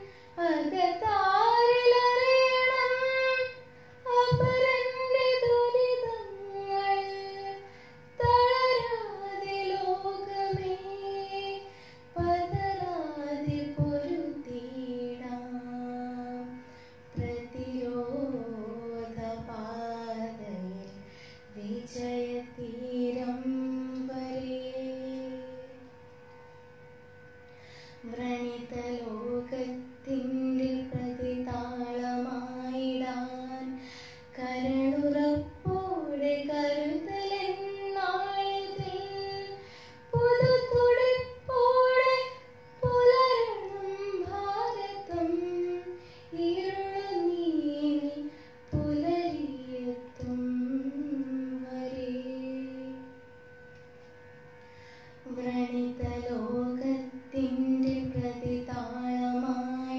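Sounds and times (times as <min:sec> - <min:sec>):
girl singing unaccompanied: 0:00.0 - 0:25.9, 0:28.0 - 0:53.2, 0:55.2 - 0:59.9
faint steady hum: 0:00.0 - 0:59.9.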